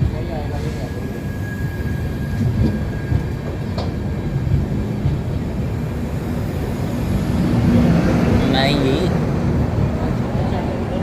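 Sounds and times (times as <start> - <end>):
train coaches rumbling on track: 0.0 - 11.0.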